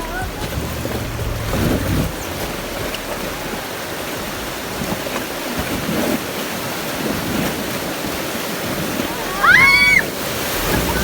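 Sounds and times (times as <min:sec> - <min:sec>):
whitewater rapids rushing: 0:00.0 - 0:11.0.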